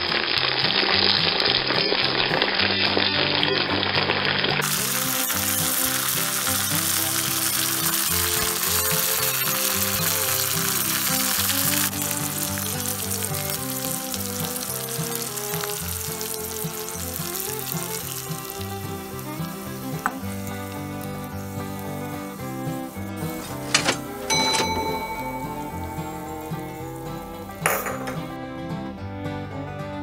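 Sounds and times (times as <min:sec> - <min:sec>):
food sizzling in hot oil: 0:00.0 - 0:28.4.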